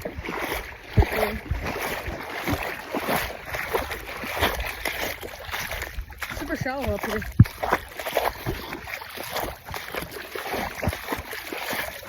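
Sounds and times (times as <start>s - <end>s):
footsteps splashing in shallow water: 0.0s - 12.0s.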